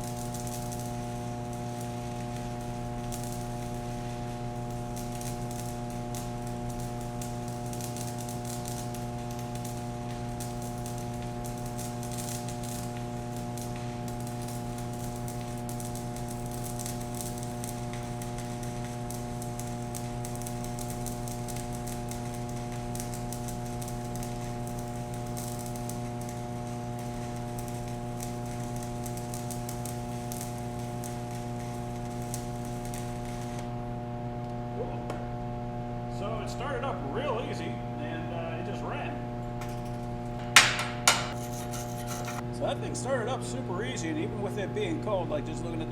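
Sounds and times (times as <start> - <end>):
electrical hum: 0.0 - 45.9
welding arc crackling: 0.0 - 45.9.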